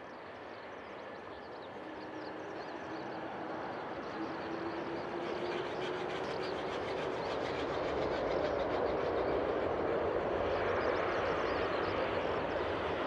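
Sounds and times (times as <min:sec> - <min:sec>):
jet engines rumbling: 0:00.1 - 0:13.0.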